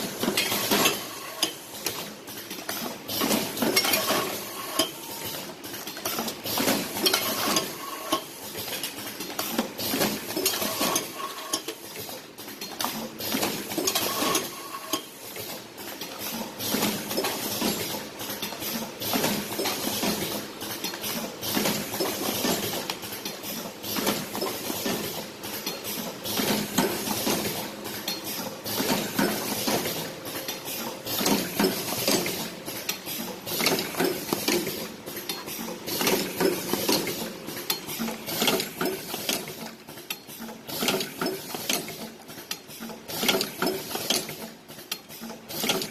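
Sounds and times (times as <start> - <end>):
machine clattering and clicking: 0.0 - 45.9.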